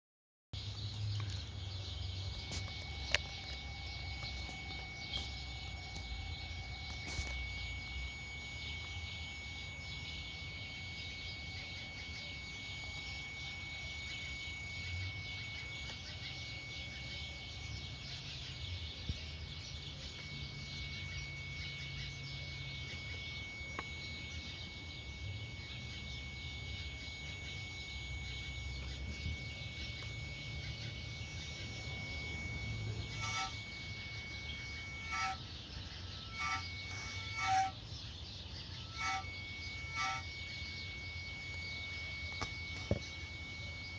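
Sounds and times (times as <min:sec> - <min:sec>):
steady high-pitched whine: 0:00.6 - 0:43.9.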